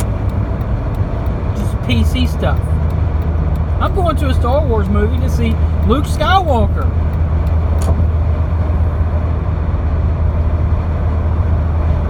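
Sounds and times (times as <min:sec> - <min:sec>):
low rumble with deep hum: 0:00.0 - 0:12.0.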